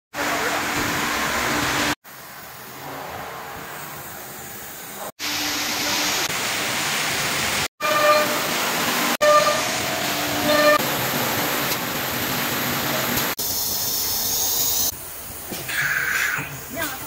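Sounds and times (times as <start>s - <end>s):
hissing machine noise: 0.2s - 17.0s.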